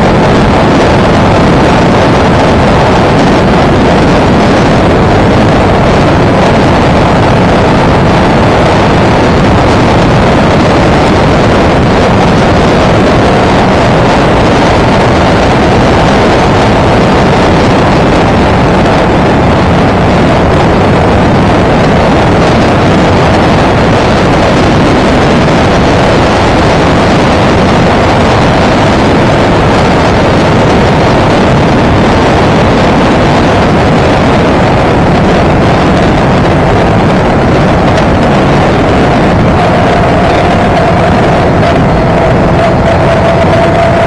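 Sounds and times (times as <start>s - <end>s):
motorcycle engine: 0.0s - 44.0s
wind rushing: 0.0s - 44.0s.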